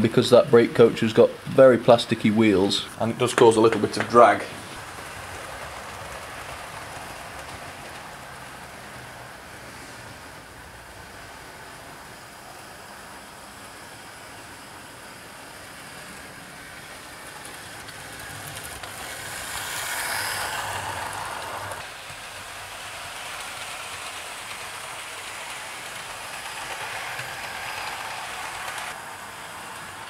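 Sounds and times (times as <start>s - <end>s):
model train motors whirring: 0.0s - 30.0s.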